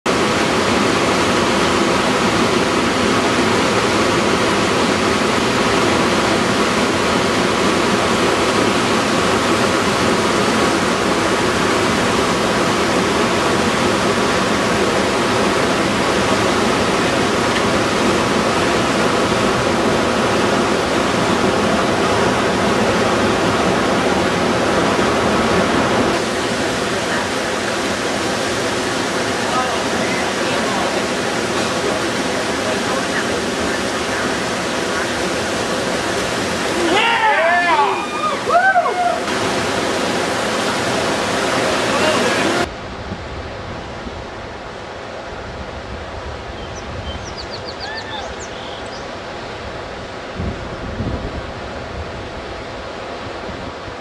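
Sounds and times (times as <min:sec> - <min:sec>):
wind and water rushing past boat: 0:00.1 - 0:54.0.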